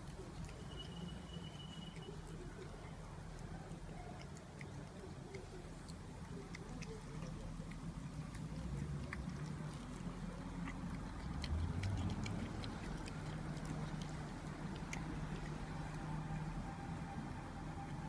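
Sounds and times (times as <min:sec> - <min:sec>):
cat chewing and licking: 0:00.0 - 0:18.0.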